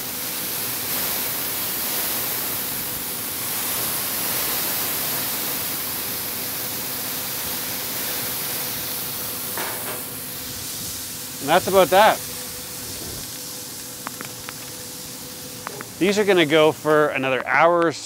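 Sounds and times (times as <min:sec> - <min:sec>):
hissing liquid spray: 0:00.0 - 0:17.6.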